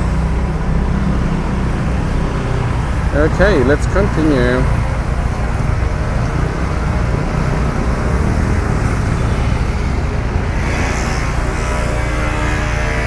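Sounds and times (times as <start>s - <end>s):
cars passing on busy street: 0.0s - 13.0s.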